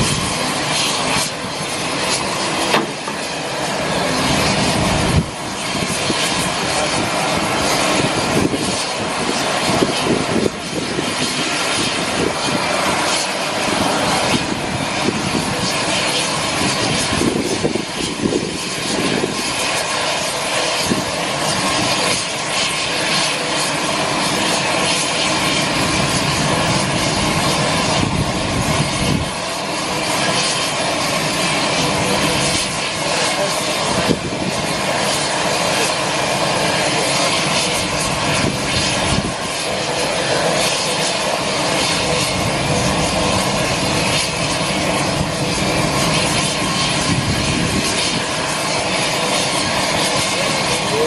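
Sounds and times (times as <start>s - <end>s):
aircraft turbines whining: 0.0s - 51.0s.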